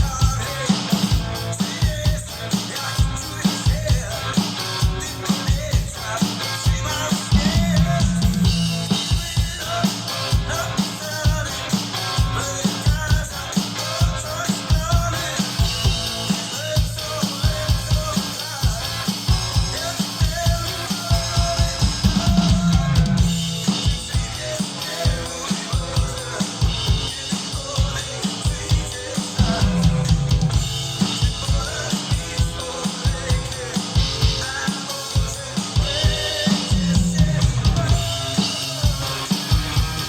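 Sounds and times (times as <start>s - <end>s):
bass and guitar: 0.0s - 40.0s
cymbals: 0.0s - 40.0s
rock drum beat: 0.0s - 40.0s.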